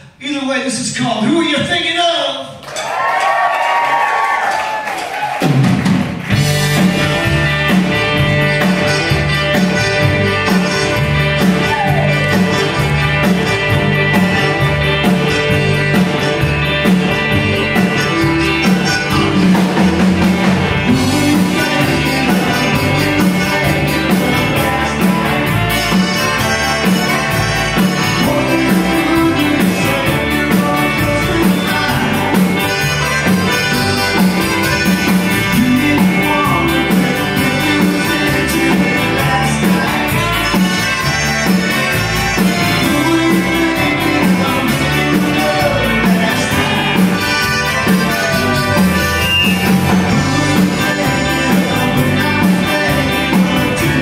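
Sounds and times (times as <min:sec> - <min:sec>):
electric guitar: 0:04.6 - 0:54.0
drums keeping a steady beat: 0:04.8 - 0:54.0
bass guitar: 0:05.1 - 0:54.0
keyboard: 0:06.0 - 0:54.0
accordion: 0:06.4 - 0:54.0.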